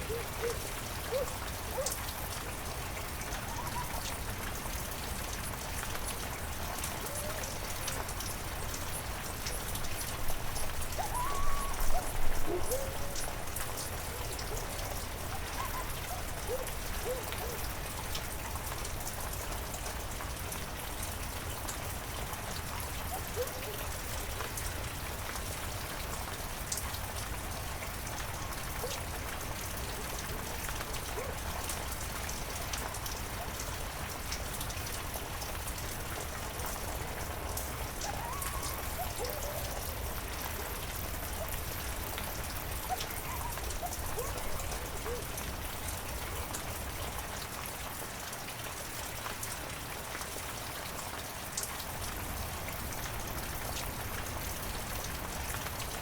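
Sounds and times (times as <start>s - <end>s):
raindrops ticking on surfaces: 0.0s - 56.0s.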